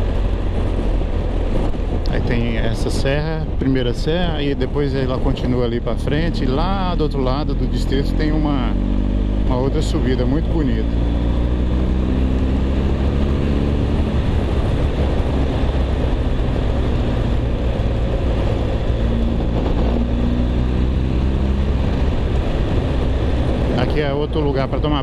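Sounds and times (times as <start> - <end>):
motorcycle engine at road speed: 0.0 - 25.0
wind noise: 0.0 - 25.0.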